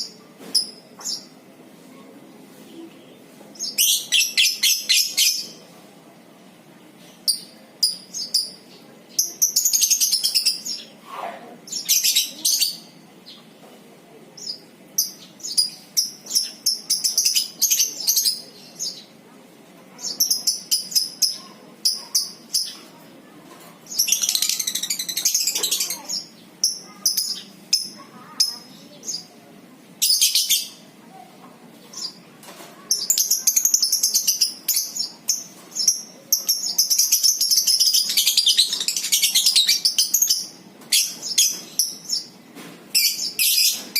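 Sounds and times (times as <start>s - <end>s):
lovebirds chattering: 0.0s - 43.9s.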